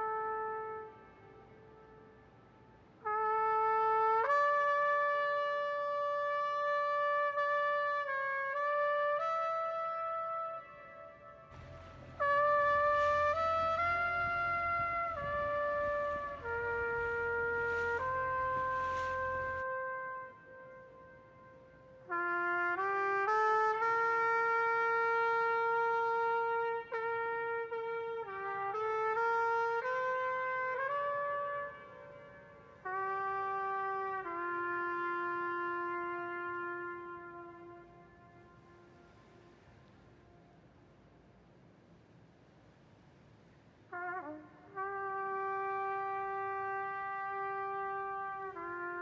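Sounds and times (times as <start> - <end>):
slow brass melody: 0.0 - 41.3, 43.8 - 49.0.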